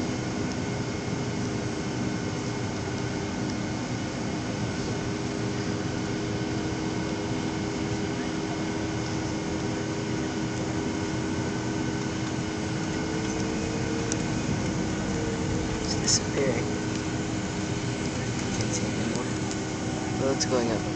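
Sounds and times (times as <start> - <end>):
cabin air running: 0.0 - 20.9
jet engines idling: 0.0 - 20.9
steady hums: 0.0 - 20.9.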